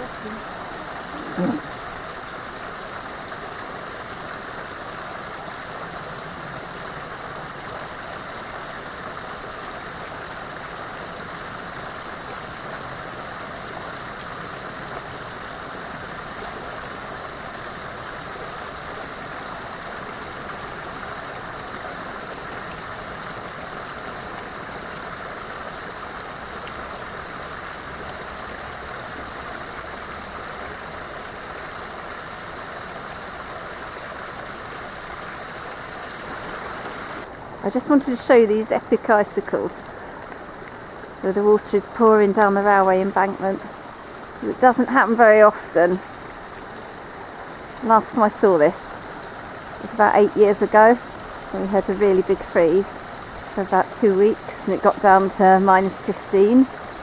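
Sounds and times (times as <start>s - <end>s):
faint water drips: 0.0s - 57.0s.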